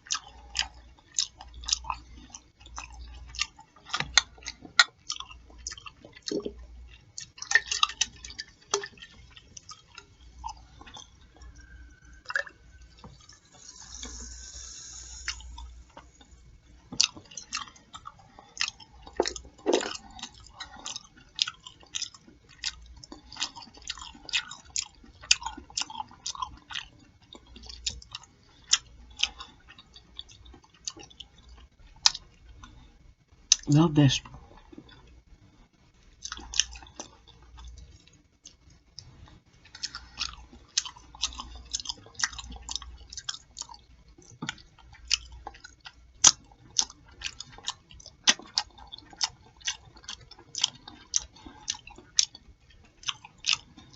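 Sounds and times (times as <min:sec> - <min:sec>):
chewing with lip smacking: 0:00.0 - 0:53.9.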